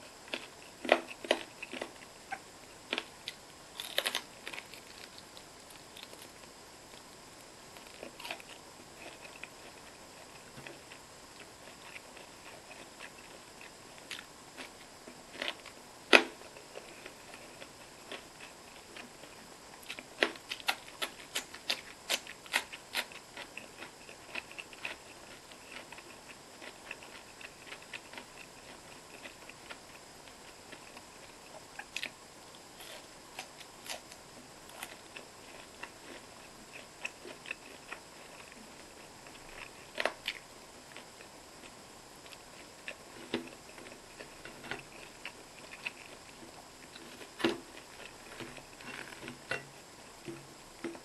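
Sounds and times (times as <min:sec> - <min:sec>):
chewing: 0:00.0 - 0:15.8, 0:16.4 - 0:51.0.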